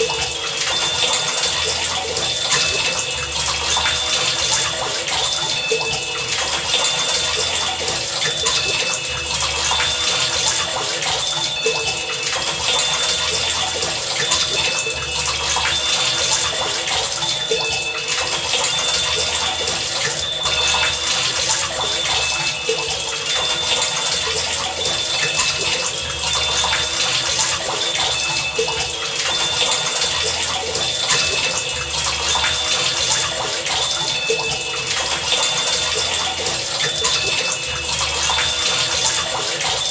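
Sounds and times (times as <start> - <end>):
high-pitched pings: 0.0 - 39.9.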